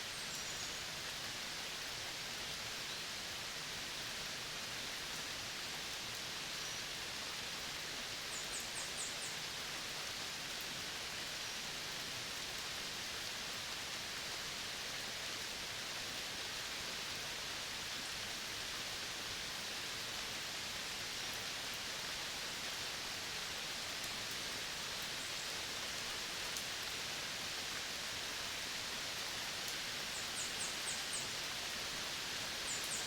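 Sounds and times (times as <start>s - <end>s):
outdoor natural hiss: 0.0s - 33.0s.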